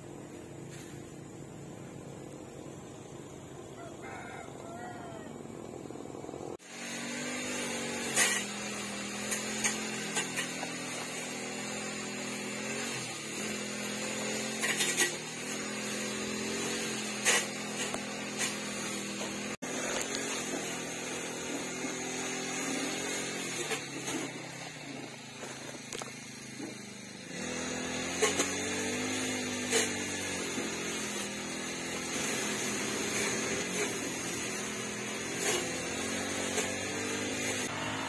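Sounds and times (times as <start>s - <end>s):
metal trowel scraping soil: 6.6s - 38.0s.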